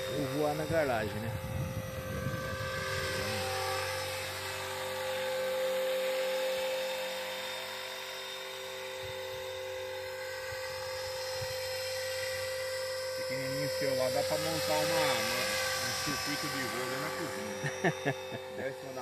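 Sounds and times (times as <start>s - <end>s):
model helicopter motor whine: 0.0s - 19.0s.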